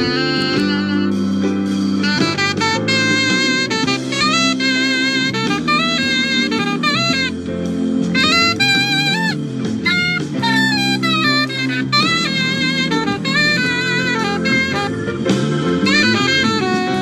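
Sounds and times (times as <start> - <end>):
instrumental soul music: 0.0 - 17.0.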